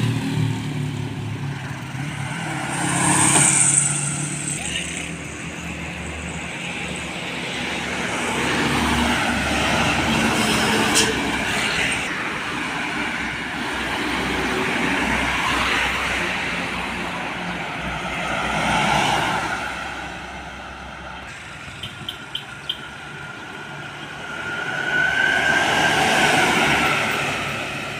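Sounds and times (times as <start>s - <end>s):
vehicles passing: 0.0s - 27.9s.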